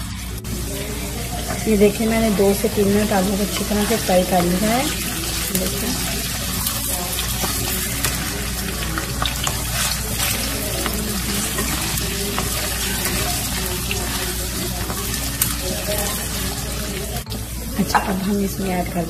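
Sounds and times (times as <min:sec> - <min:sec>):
potatoes sizzling in oil: 0:00.0 - 0:19.0.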